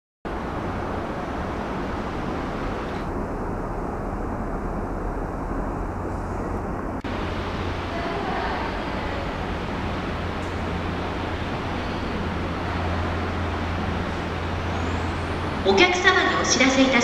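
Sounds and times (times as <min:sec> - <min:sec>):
distant traffic rumble: 0:00.3 - 0:17.0
low hum: 0:00.3 - 0:17.0.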